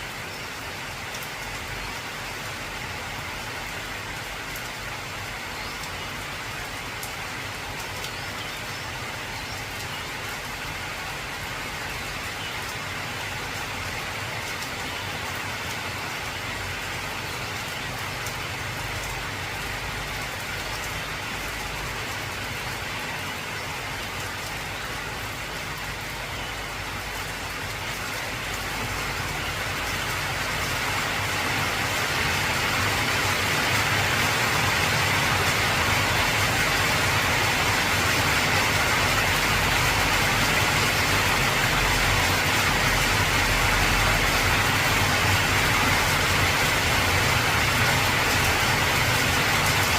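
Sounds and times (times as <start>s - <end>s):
heavy rain on a tin roof: 0.0s - 49.9s.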